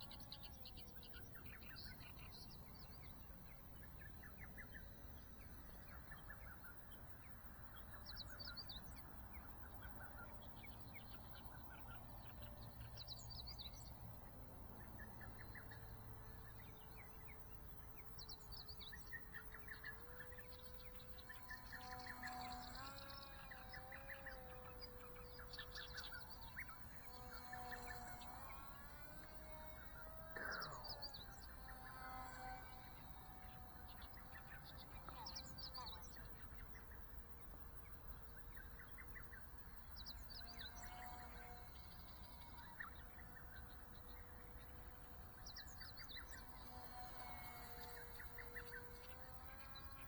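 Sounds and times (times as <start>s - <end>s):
low steady hum: 0.0s - 50.0s
small birds chirping: 0.0s - 50.0s.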